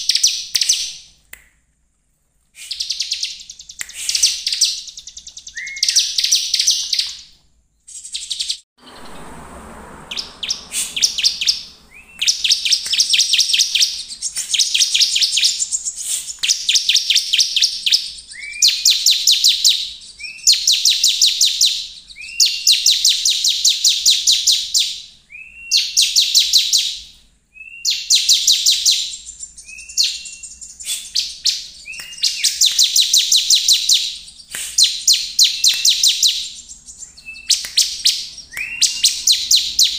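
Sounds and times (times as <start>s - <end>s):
bird singing trilling phrases: 2.7s - 9.1s, 10.1s - 39.9s.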